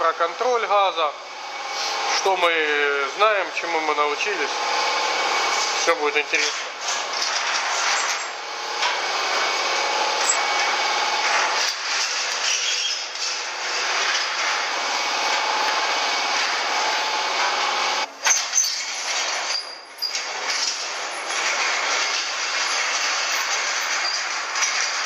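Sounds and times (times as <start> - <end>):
trolleys rolling on metal rails: 0.0 - 25.0.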